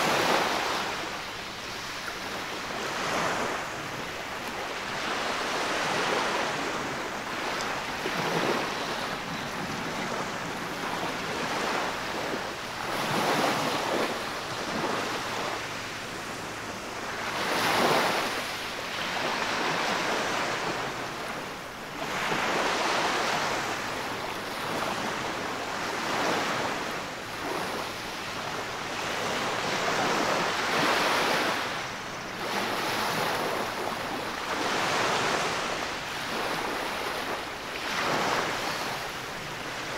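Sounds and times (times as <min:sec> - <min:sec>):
small waves washing on sand: 0:00.0 - 0:39.9.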